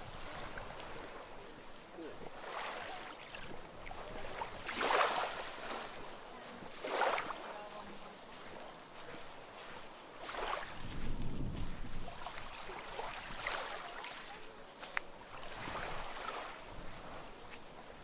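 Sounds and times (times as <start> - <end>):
sea waves washing onto shore: 0.0 - 18.0.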